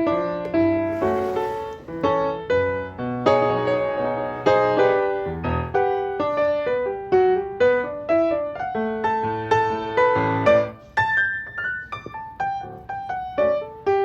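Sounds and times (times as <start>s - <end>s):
gentle solo piano melody: 0.0s - 14.0s.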